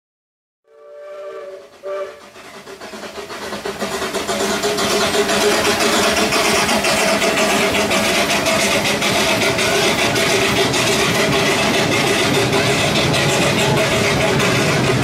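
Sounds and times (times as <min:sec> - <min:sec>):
miniature train whistle toot: 0:00.7 - 0:02.7, 0:04.6 - 0:15.0
miniature train running noise: 0:00.7 - 0:15.0.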